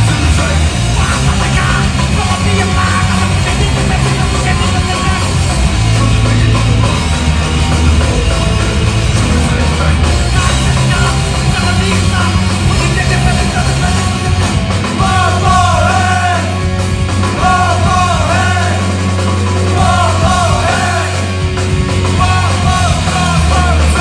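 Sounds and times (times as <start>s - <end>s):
loud punk metal band: 0.0s - 24.0s.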